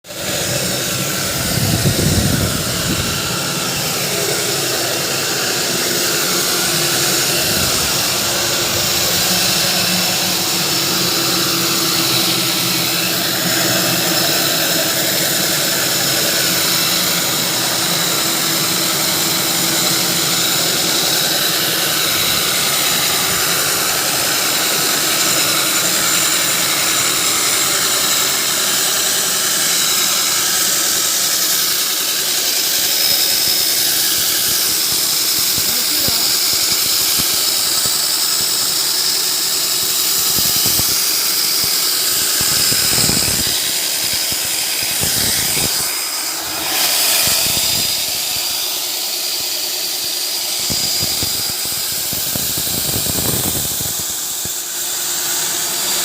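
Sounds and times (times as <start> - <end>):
core drill whining and grinding: 0.1 - 56.0.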